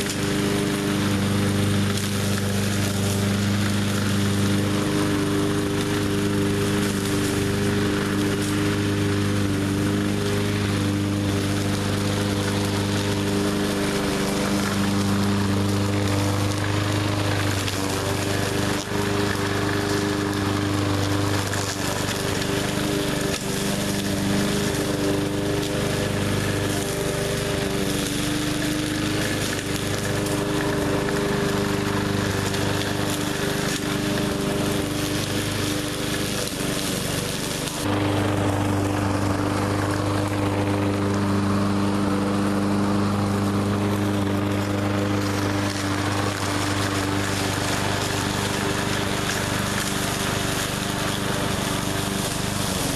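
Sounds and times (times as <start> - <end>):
push mower engine running: 0.0 - 52.9.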